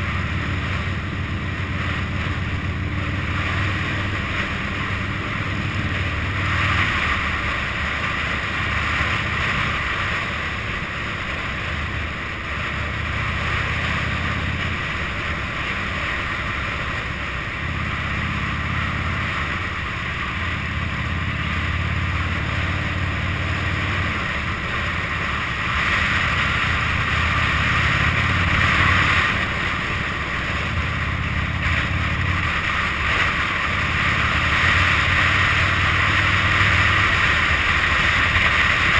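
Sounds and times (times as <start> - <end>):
motorcycle engine rumble: 0.0 - 38.9.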